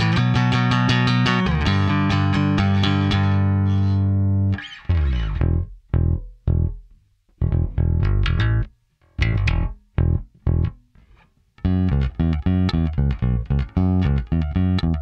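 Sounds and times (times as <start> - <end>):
electric bass riff: 0.0 - 15.0.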